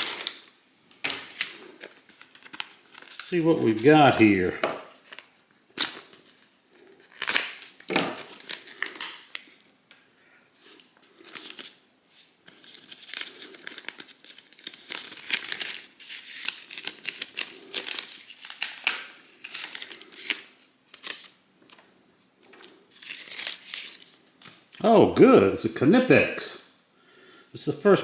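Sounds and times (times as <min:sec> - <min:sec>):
packaging crinkling and tearing: 0:00.0 - 0:00.5, 0:01.1 - 0:09.8, 0:10.7 - 0:24.8.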